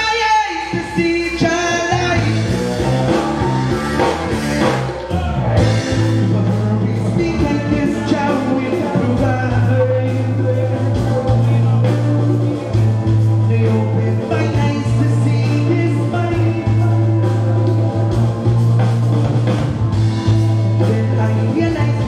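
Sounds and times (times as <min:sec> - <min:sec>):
man singing: 0:00.0 - 0:18.2, 0:20.6 - 0:22.0
loud bass line: 0:00.0 - 0:22.0
steady drum beat: 0:00.8 - 0:22.0.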